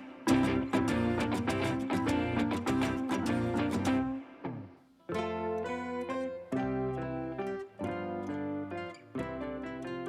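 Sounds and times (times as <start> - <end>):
plucked-string guitar-like tune: 0.0 - 10.0.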